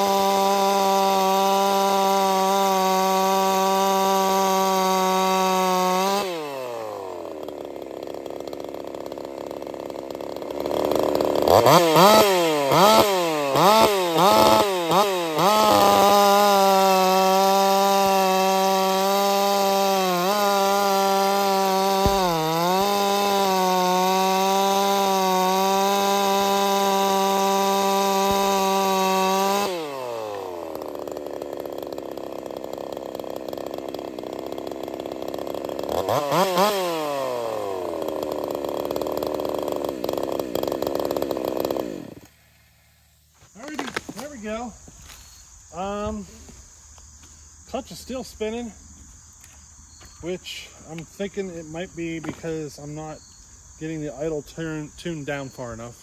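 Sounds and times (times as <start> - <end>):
chainsaw revving: 0.0 - 42.8, 43.4 - 56.0.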